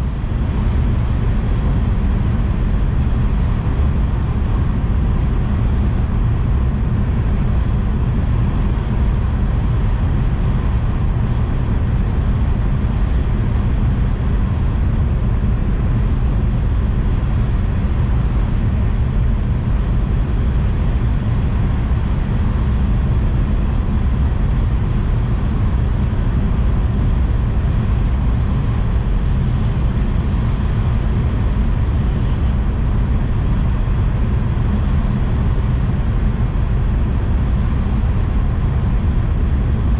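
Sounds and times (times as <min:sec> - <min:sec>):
train running noise from inside: 0:00.0 - 0:39.9.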